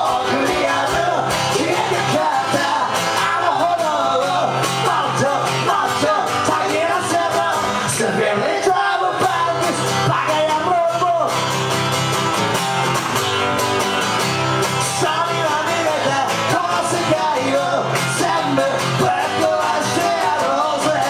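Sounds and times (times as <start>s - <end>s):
two people singing: 0.0s - 11.4s, 14.7s - 21.0s
strummed acoustic guitar: 0.0s - 21.0s.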